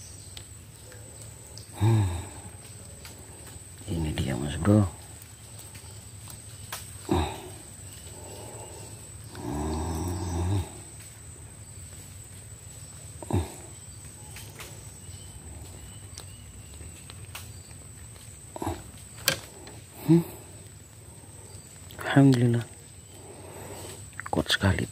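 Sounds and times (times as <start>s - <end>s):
high-pitched insect whine: 1.2s - 24.8s.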